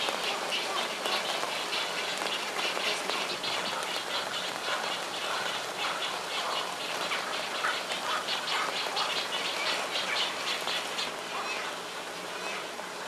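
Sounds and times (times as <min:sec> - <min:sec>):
frogs calling: 0:00.0 - 0:12.8.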